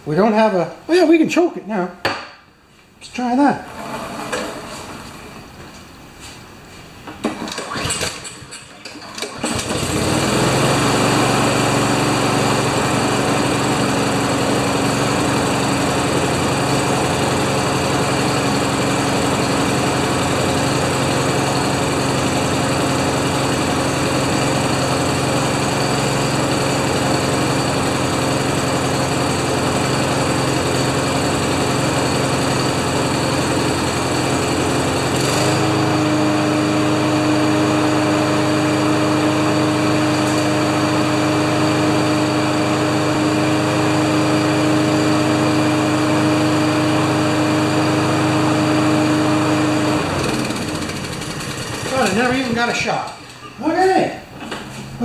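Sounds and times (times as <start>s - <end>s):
lawn mower engine running: 3.6s - 5.6s, 7.2s - 53.7s.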